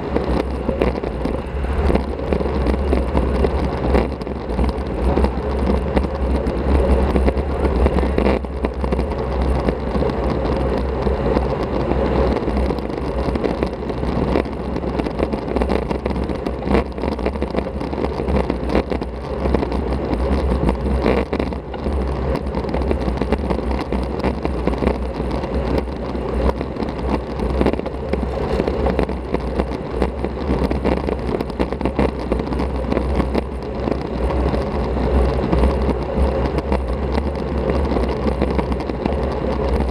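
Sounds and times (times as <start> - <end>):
road noise: 0.0 - 39.9
wind rumble on microphone: 0.0 - 39.9.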